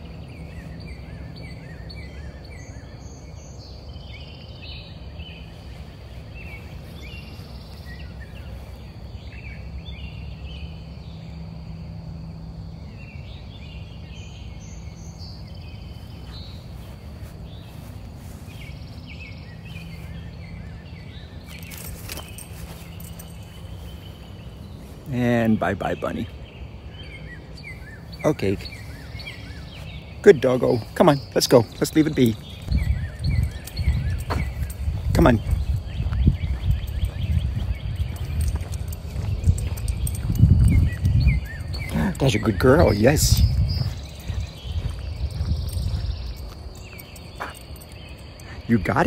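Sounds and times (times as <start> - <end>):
outdoor background noise: 0.0 - 49.0
songbirds chirping: 0.0 - 49.0.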